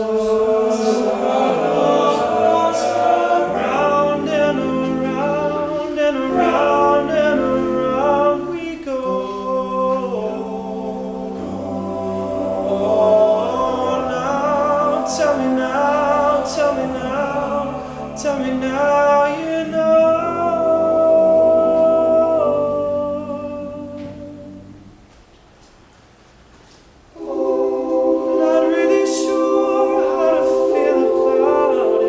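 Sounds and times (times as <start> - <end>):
male a cappella group singing: 0.0 - 24.7, 27.2 - 32.0.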